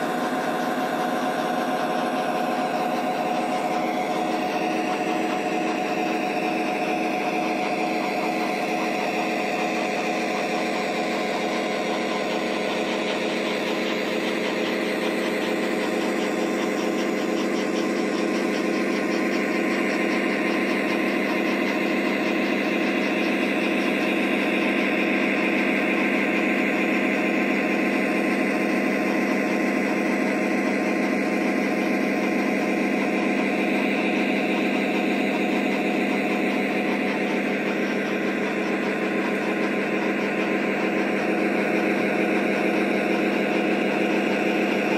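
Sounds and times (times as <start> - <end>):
diesel engine sound from speaker: 0.0 - 44.9.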